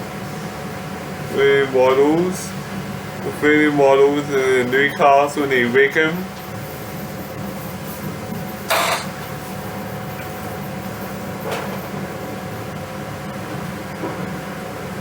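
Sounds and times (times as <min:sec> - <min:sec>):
mechanical room hum: 0:00.0 - 0:15.0.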